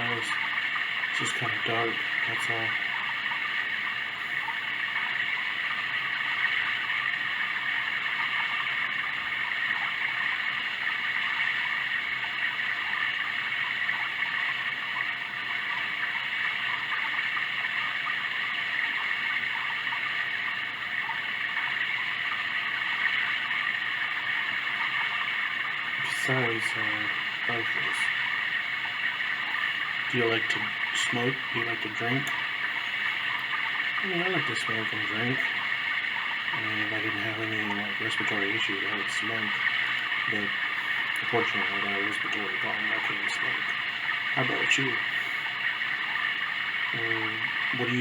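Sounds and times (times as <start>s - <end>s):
running water from sound machine: 0.0s - 48.0s.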